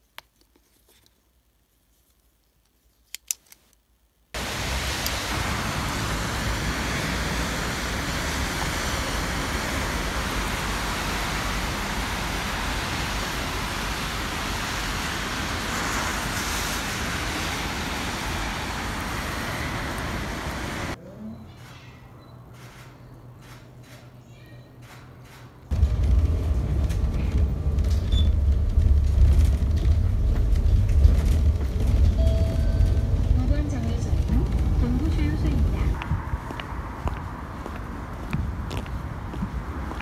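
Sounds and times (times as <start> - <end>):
city street traffic noise: 4.4 - 40.0.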